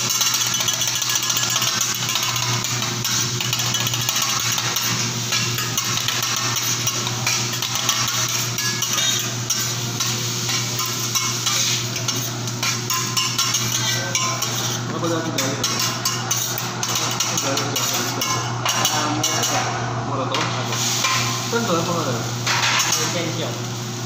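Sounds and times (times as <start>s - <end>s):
food sizzling on a griddle: 0.0s - 19.6s, 20.4s - 24.0s
metal spatula scraping and tapping: 0.0s - 19.6s.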